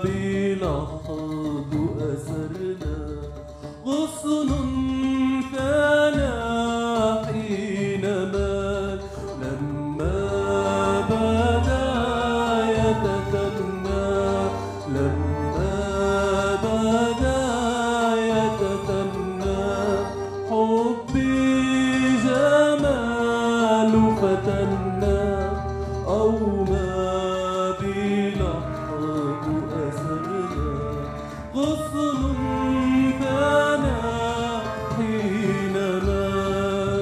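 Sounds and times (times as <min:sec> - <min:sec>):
person singing ornamented melody: 0:00.0 - 0:37.0
string ensemble playing: 0:00.0 - 0:37.0.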